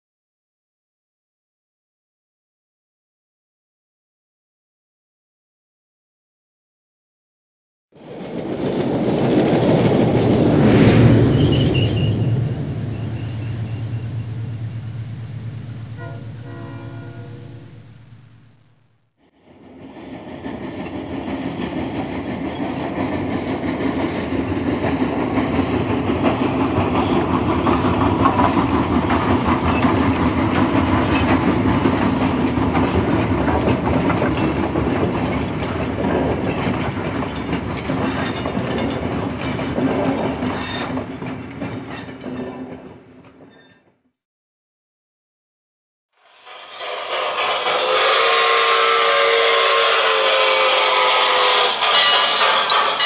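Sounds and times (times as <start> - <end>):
train rolling past: 8.0 - 43.8, 46.2 - 53.0.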